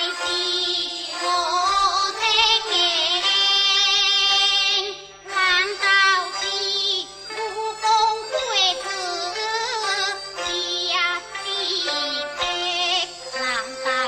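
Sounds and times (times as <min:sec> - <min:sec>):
high voice singing opera: 0:00.0 - 0:14.0
opera accompaniment: 0:00.0 - 0:14.0.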